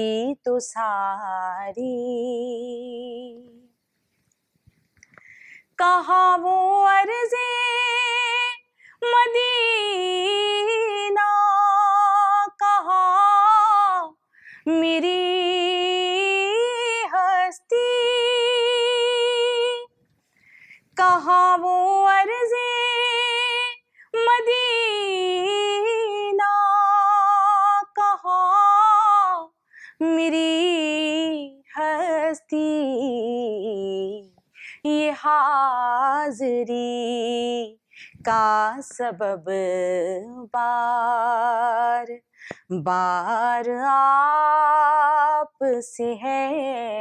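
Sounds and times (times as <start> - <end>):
woman singing with vibrato: 0.0 - 3.7, 5.7 - 19.9, 20.9 - 47.0.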